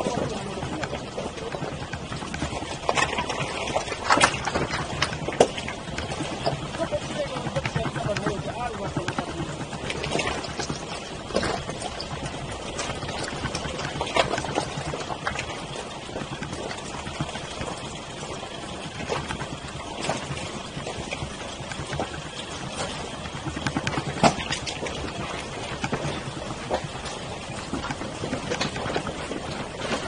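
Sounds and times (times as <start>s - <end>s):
wheels knocking over stones: 0.0s - 30.0s.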